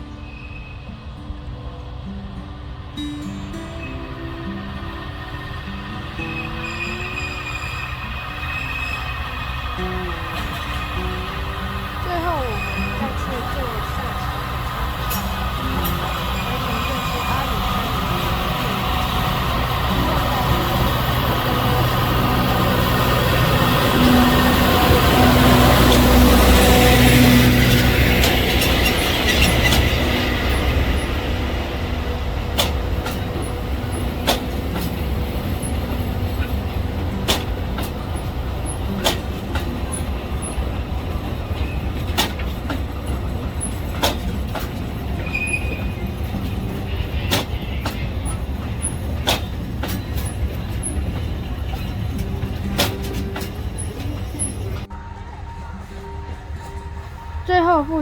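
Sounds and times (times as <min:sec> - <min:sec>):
train rumble: 0:00.0 - 0:58.0
train wheel clacks: 0:03.3 - 0:54.9.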